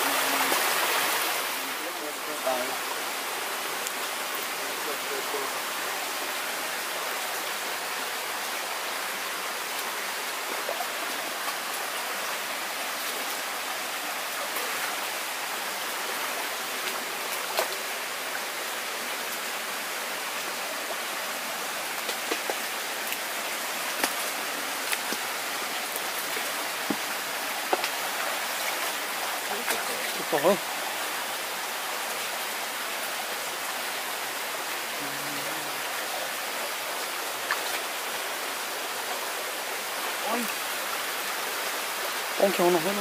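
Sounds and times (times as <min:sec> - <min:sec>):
stream rippling over rocks: 0:00.0 - 0:43.0.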